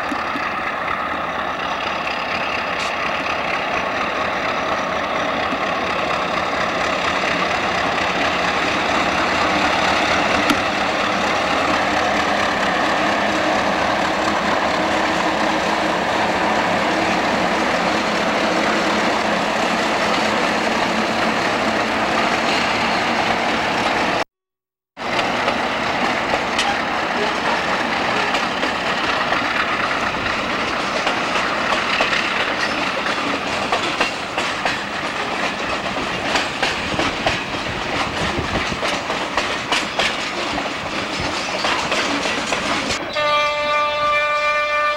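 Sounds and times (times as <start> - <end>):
diesel locomotive engine rumble: 0.0 - 24.2, 25.0 - 44.9
train wheels on rails: 0.0 - 24.2, 25.0 - 44.9.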